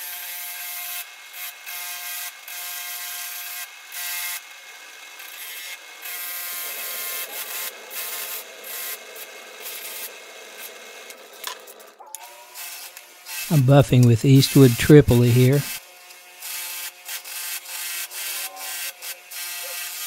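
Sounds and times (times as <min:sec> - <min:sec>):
bench grinder motor hum: 0:00.0 - 0:13.4, 0:15.7 - 0:20.0.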